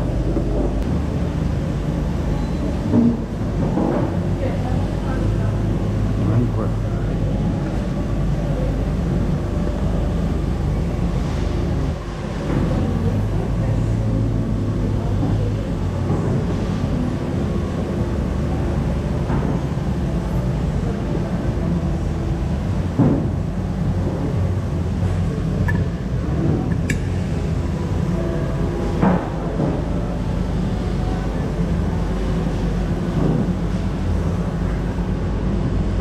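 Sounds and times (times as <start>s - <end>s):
background machinery hum: 0.0s - 36.0s.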